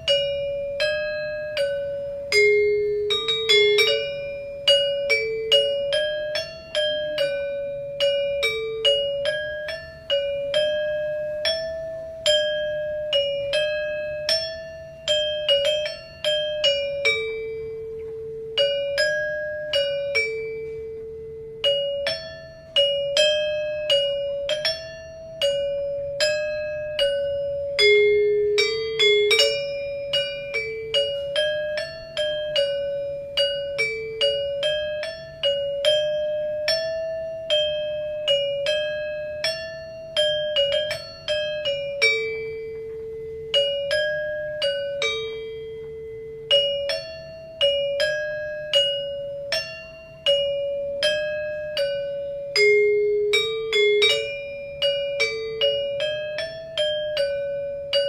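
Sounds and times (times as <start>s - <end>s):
metallophone music: 0.0s - 58.0s.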